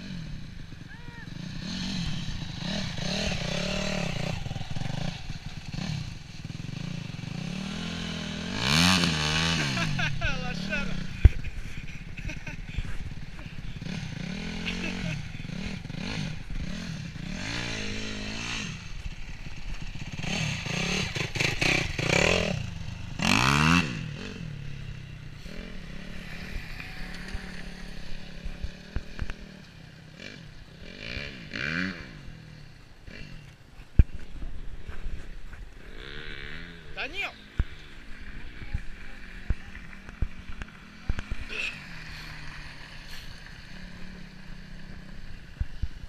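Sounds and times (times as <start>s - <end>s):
dirt bike engine revving: 0.0s - 33.6s, 34.8s - 46.0s.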